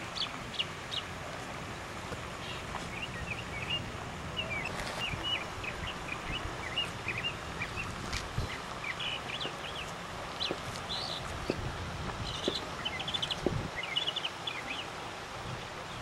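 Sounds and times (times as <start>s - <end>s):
birds chirping: 0.0s - 15.2s
low background noise: 0.0s - 16.0s.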